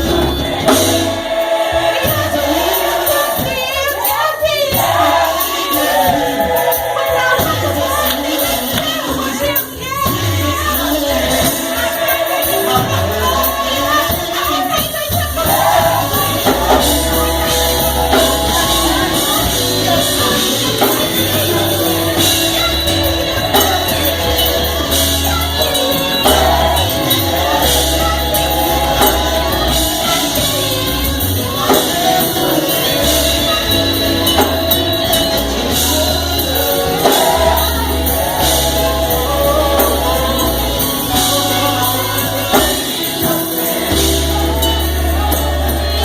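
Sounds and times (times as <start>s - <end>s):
gospel choir singing: 0.0s - 46.0s
instrumental backing with bass: 0.0s - 46.0s.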